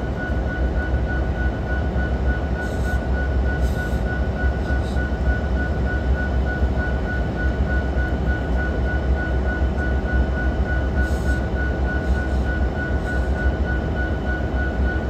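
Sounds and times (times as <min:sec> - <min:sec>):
diesel locomotives idling: 0:00.0 - 0:15.0.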